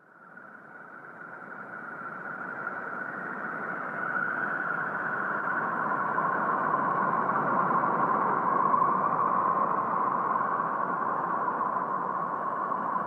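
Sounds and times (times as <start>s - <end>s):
eerie hissing whistle-like drone: 0.0s - 13.0s.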